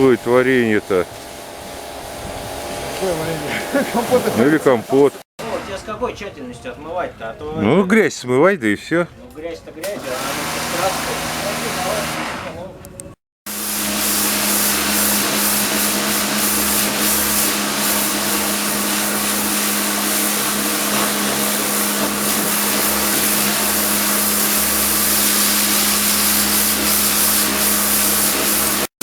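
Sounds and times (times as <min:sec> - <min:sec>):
pressure washer motor hum: 0:00.0 - 0:05.2, 0:09.8 - 0:12.7, 0:13.5 - 0:29.0
water jet hissing: 0:00.0 - 0:05.2, 0:09.8 - 0:12.6, 0:13.5 - 0:29.0.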